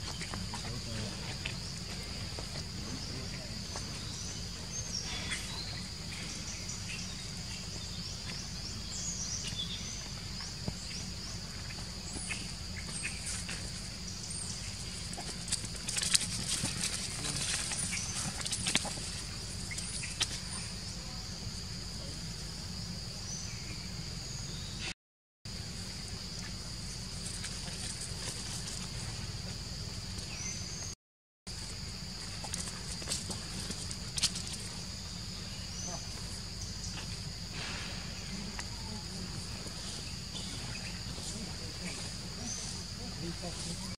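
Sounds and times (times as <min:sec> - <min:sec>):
animals scampering over dry leaves: 0:00.0 - 0:20.9, 0:26.2 - 0:30.6, 0:31.5 - 0:43.9
insects droning: 0:00.0 - 0:43.9.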